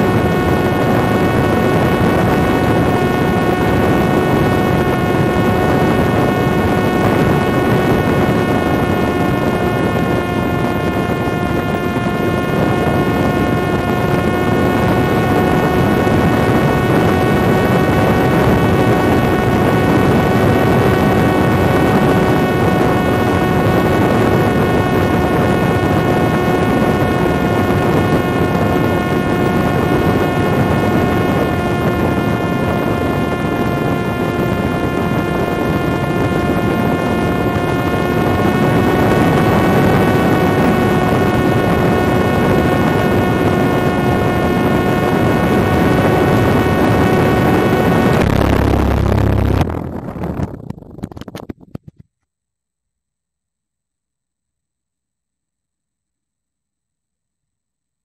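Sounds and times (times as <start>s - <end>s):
drone motor and propeller whining: 0.0s - 51.6s
heavy rush of wind: 0.0s - 51.7s.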